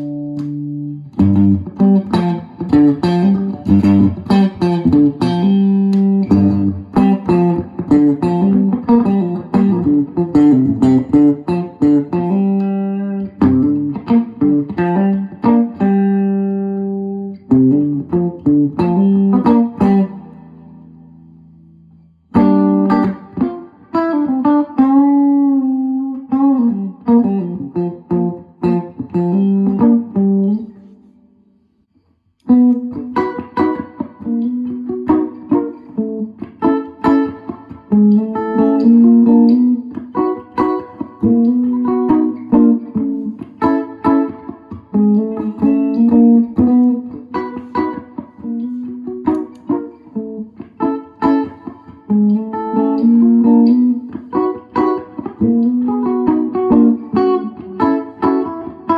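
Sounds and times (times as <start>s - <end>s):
solo guitar playing: 0.0s - 31.8s, 32.4s - 58.9s.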